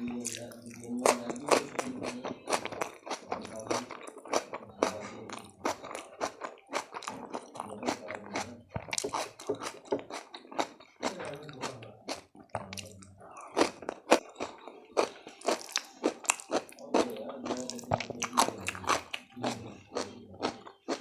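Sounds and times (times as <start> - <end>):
chewing food crunches: 0.0 - 21.0.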